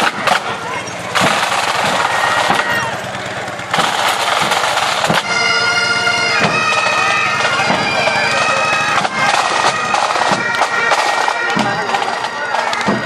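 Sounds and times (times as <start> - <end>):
bagpipes playing: 0.0 - 13.0
drum strikes: 0.0 - 13.0.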